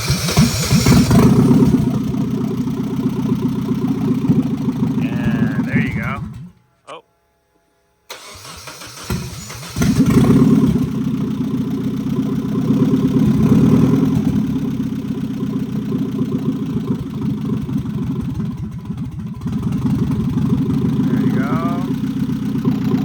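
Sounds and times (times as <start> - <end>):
car engine cranking and starting: 0.0 - 6.6, 8.1 - 23.0.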